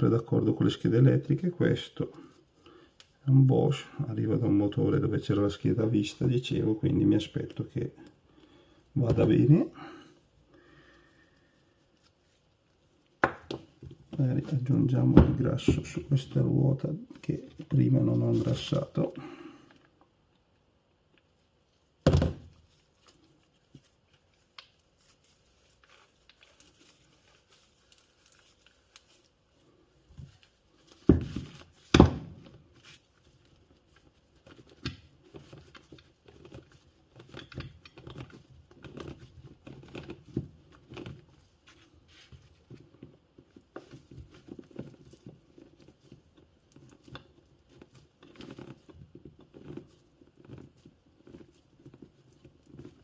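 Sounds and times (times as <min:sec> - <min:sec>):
faint clicks and rubbing: 0:00.7 - 0:53.0.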